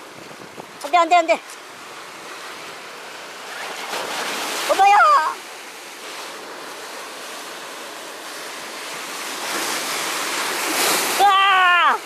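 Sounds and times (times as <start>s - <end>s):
sea waves breaking on concrete: 0.0s - 12.0s.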